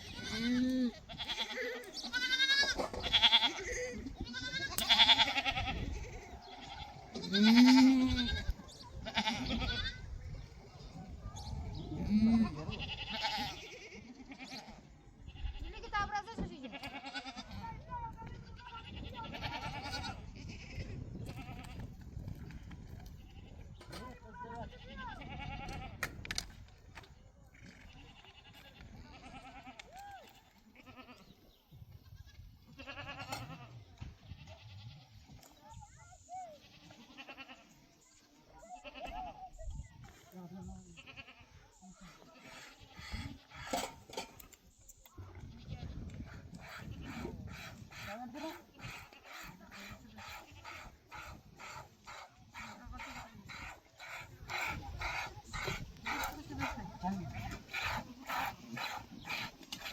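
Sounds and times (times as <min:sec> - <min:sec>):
flock of animals bleating: 0:00.0 - 0:10.5, 0:11.8 - 0:21.9, 0:24.6 - 0:26.0, 0:27.6 - 0:35.5, 0:36.2 - 0:44.0, 0:45.2 - 0:59.9.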